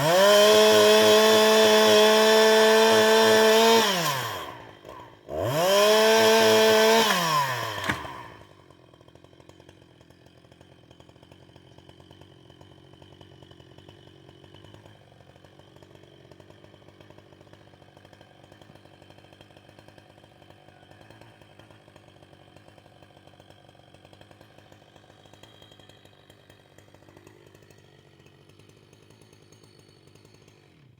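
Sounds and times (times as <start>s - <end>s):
chainsaw revving: 0.0s - 30.9s.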